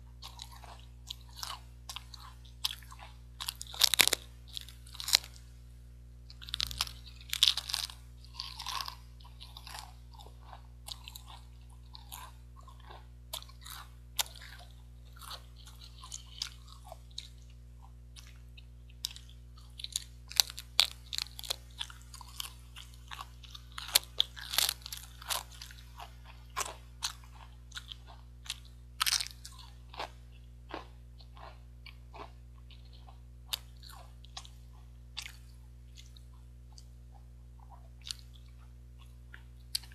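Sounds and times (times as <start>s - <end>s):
quiet chewing: 0.1s - 5.6s, 6.2s - 39.9s
crisps crunching: 0.2s - 5.4s, 6.3s - 17.6s, 18.2s - 36.9s.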